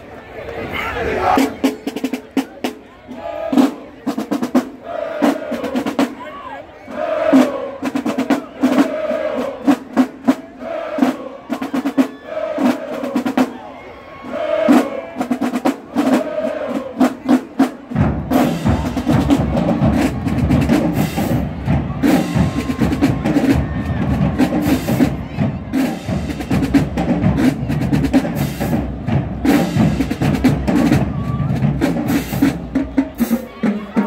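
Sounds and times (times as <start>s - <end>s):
drumline playing a cadence: 1.0s - 13.6s, 14.2s - 34.0s.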